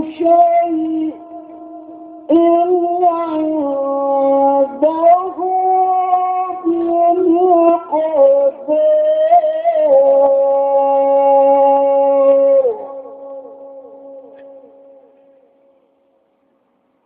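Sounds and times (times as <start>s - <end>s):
man chanting melodically: 0.0s - 15.2s.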